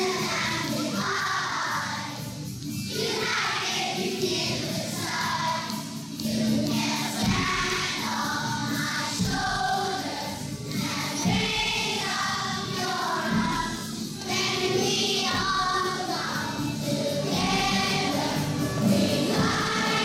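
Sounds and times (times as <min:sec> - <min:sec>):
crowd singing as a choir: 0:00.0 - 0:02.3, 0:02.9 - 0:20.0.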